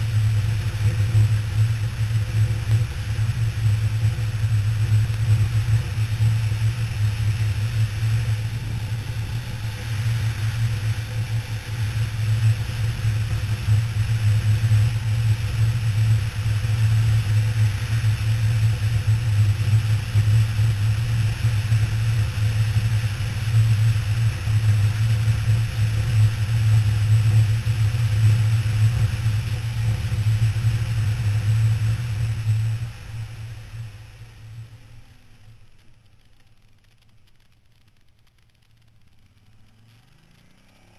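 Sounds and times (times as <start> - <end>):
wind rush on microphone: 0.0 - 34.4
motorcycle engine running: 0.0 - 40.9.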